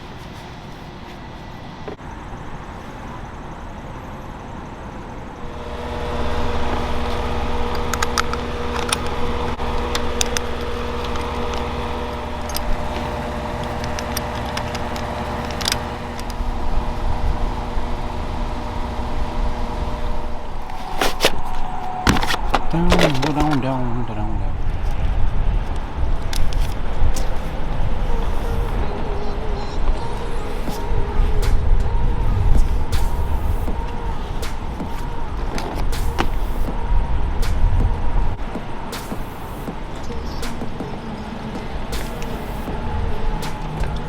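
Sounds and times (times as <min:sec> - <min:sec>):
machine rumbling with a hum: 0:05.3 - 0:44.0.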